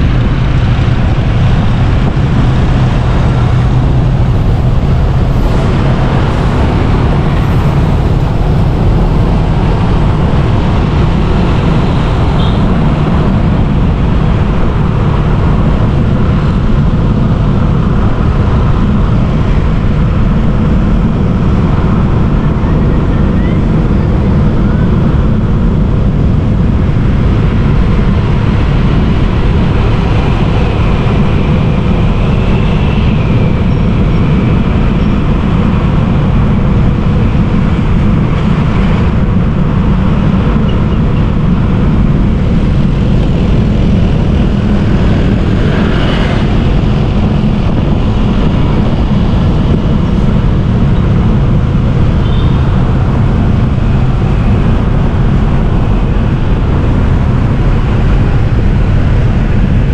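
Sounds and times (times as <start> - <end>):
city traffic: 0.0 - 59.9
wind rumble on microphone: 0.0 - 59.9.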